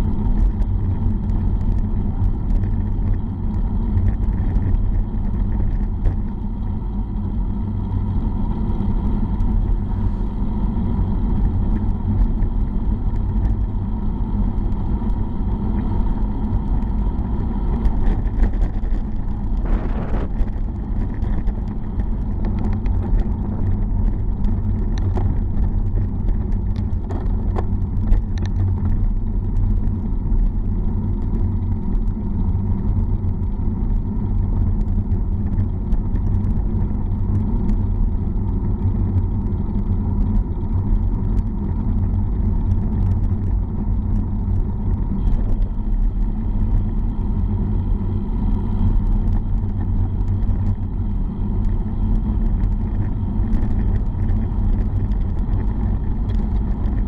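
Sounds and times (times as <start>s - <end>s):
tyre and road rumble: 0.0s - 57.0s
wind rushing over microphone: 0.0s - 57.0s.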